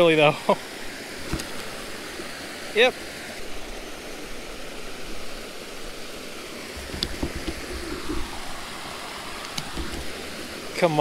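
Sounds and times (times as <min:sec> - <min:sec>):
water rushing over small waterfall: 0:00.0 - 0:11.0.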